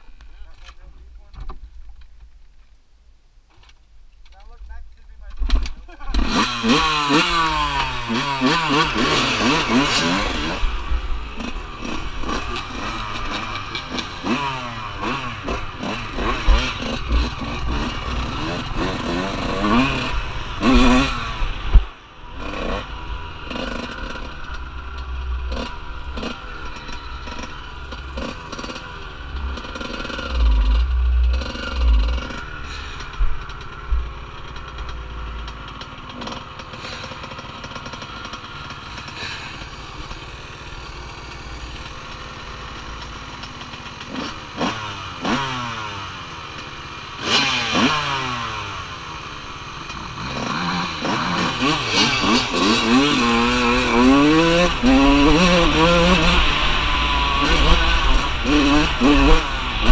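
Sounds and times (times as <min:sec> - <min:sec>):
off-road vehicle engines revving: 0:05.9 - 0:59.9
dirt bike revving close by: 0:06.1 - 0:59.9.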